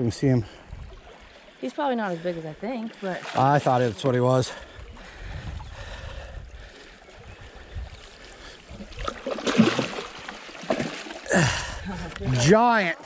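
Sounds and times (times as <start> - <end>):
water and wind rumble: 0.0 - 13.0.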